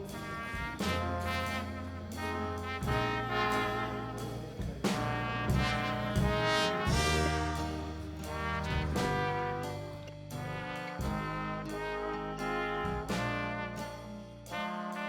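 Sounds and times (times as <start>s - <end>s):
jazzy brass music: 0.0s - 15.0s.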